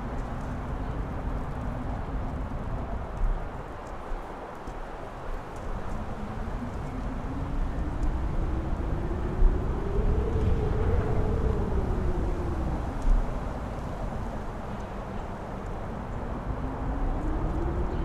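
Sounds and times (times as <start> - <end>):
howling wind tone: 0.0 - 18.0
strong wind buffeting microphone: 0.0 - 18.0.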